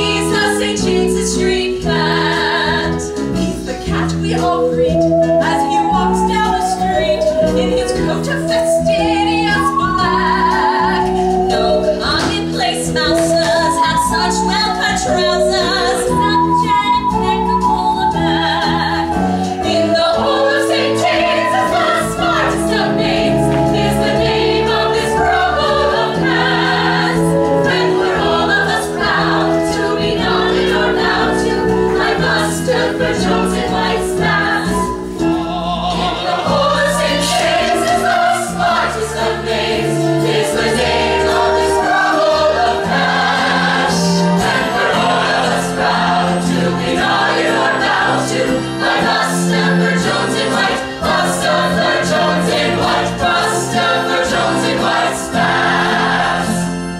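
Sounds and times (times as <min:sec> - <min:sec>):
band accompaniment: 0:00.0 - 0:56.9
group of voices singing: 0:00.0 - 0:56.9.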